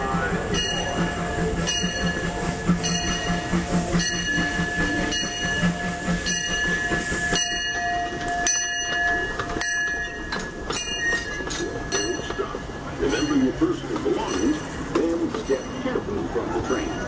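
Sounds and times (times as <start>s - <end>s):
steam locomotive bell ringing: 0.0s - 17.0s.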